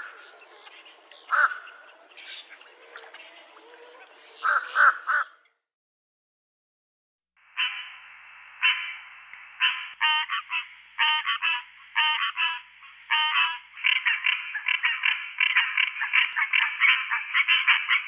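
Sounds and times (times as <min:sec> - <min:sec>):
treefrogs calling: 0:00.0 - 0:05.6, 0:07.4 - 0:18.0.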